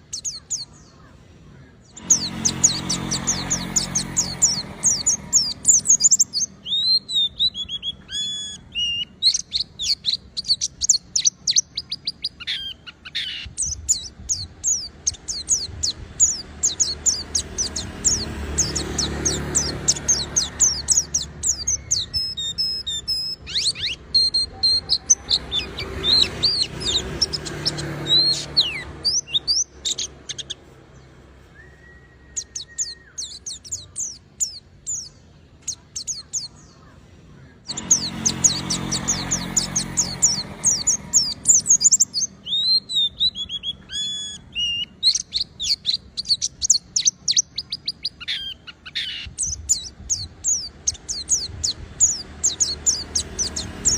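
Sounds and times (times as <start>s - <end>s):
bird twittering and trilling: 0.0s - 53.9s.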